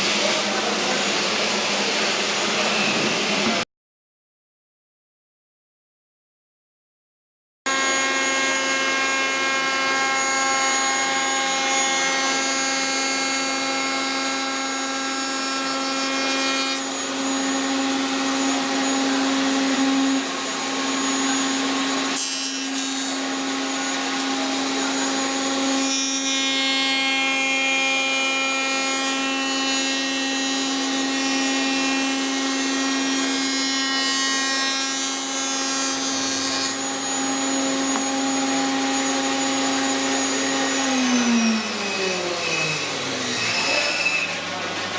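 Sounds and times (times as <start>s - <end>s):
router milling wood: 7.7s - 44.9s.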